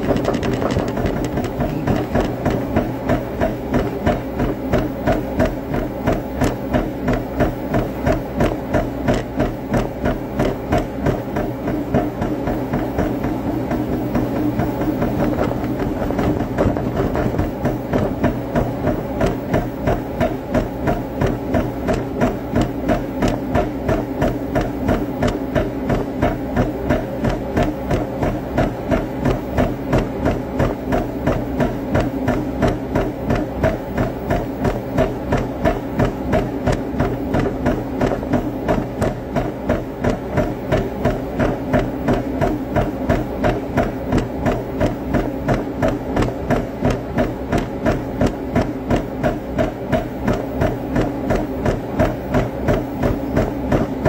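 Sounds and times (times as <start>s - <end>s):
constant low hum: 0.0s - 54.0s
rhythmic workout knocking: 0.0s - 54.0s.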